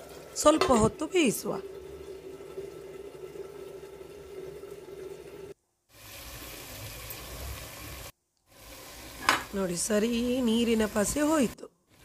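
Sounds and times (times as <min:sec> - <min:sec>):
meat simmering in pot: 0:00.0 - 0:11.1.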